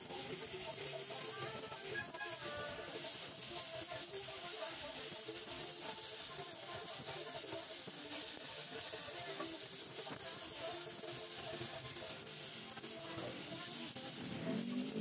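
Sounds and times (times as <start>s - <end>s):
quiet background music: 0.0s - 15.0s
welding torch flame hissing: 0.0s - 15.0s.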